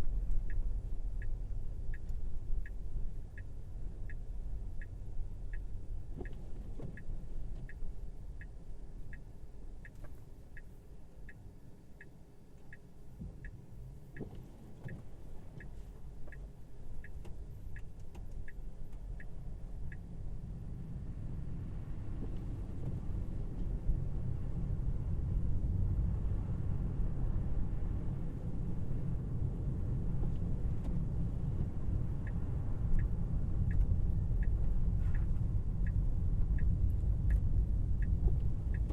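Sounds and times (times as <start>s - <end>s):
turn signal ticking: 0.0s - 38.9s.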